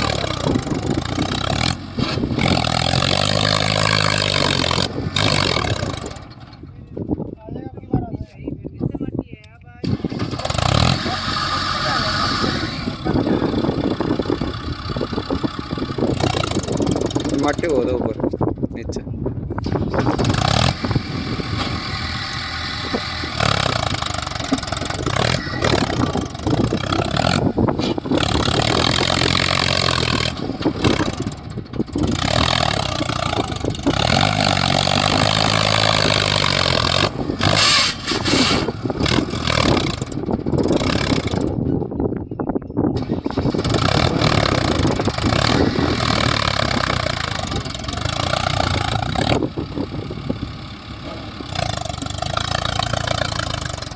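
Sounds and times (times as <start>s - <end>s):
heavy diesel engines revving: 0.0s - 7.2s, 9.8s - 42.0s, 42.9s - 53.9s.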